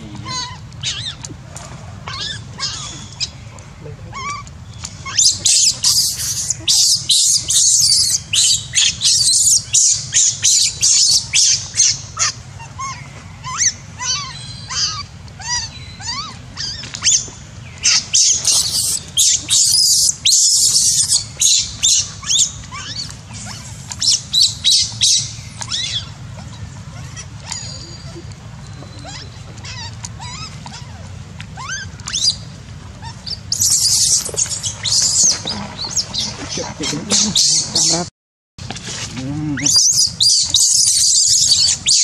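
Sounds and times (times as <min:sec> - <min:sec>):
baby monkey screaming: 0:00.2 - 0:01.3, 0:02.1 - 0:03.3, 0:04.1 - 0:28.2, 0:29.0 - 0:32.4, 0:33.0 - 0:38.1, 0:39.6 - 0:42.0.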